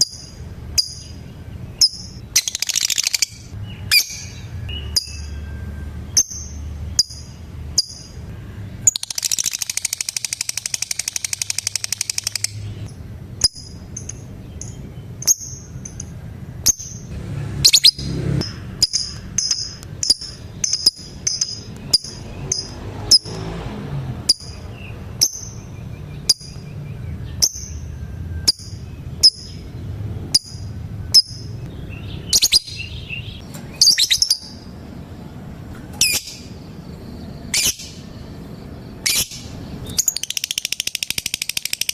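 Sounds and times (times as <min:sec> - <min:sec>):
lovebird chirping and trilling: 0:00.0 - 0:23.4, 0:24.3 - 0:34.7, 0:36.0 - 0:41.9.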